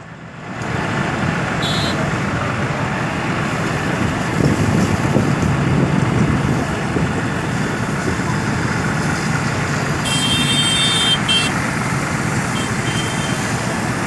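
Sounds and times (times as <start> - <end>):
heavy truck engines: 0.0 - 14.0
highway traffic: 0.0 - 14.0.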